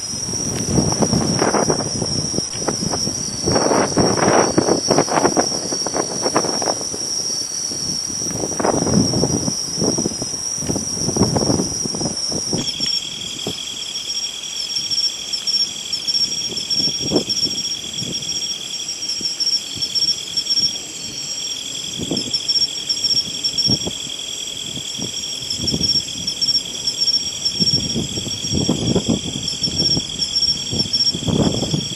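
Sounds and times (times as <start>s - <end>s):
wind buffeting microphone: 0.0s - 13.8s, 15.8s - 31.9s
insects trilling: 0.0s - 31.9s.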